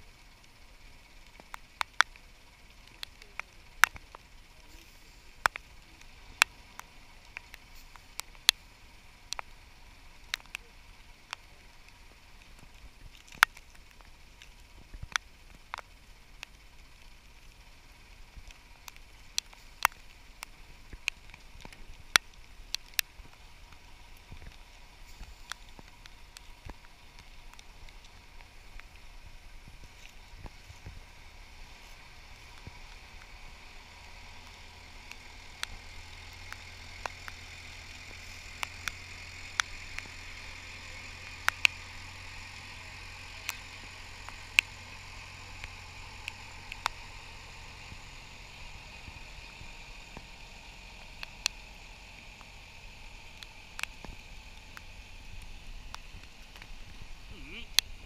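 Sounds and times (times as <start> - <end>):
locomotive engine hum: 0.0 - 58.0
sharp clicks: 0.0 - 58.0.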